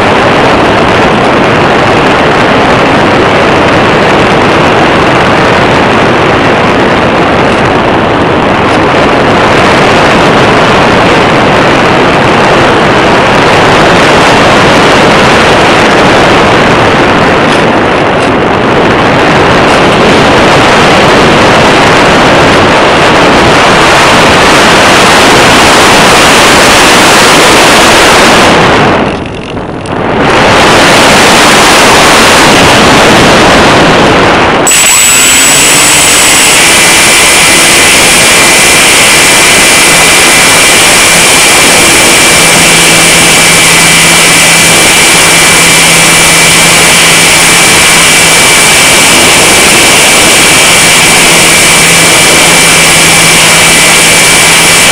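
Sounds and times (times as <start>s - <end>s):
wind rush over microphone: 0.0s - 54.9s.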